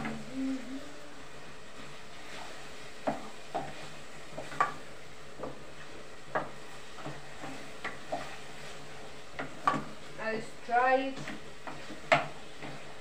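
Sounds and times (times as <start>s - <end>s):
faint steady hiss: 0.0s - 13.0s
wooden spoon scraping a saucepan: 1.7s - 13.0s.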